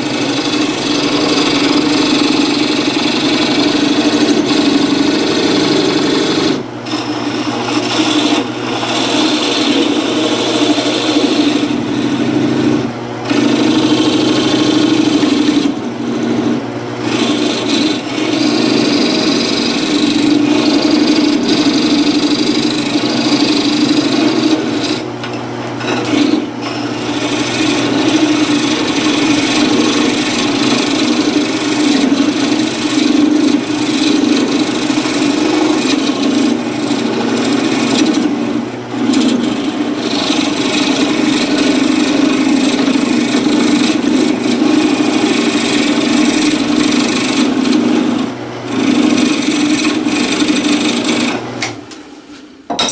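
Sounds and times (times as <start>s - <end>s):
tool rubbing spinning wood: 0.0s - 51.6s
wood lathe humming: 0.0s - 51.8s.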